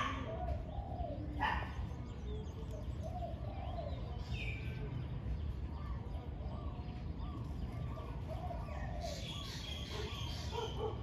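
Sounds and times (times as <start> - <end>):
doves cooing: 0.0 - 11.0
small bird chirp: 0.0 - 11.0.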